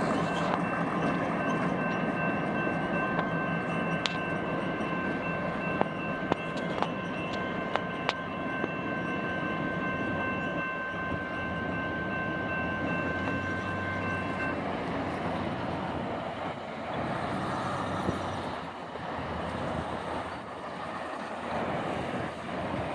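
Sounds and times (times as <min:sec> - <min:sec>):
diesel locomotives rumbling: 0:00.0 - 0:22.9
railroad crossing bell ringing: 0:00.0 - 0:22.9.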